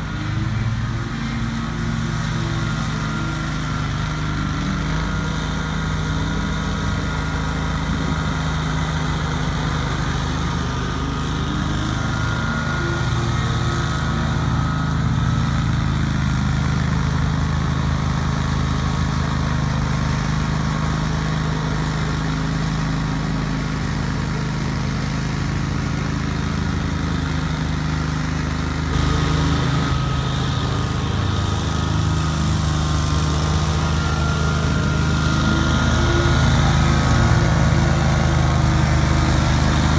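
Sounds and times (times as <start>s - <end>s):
mower engine running under load: 0.0s - 39.9s.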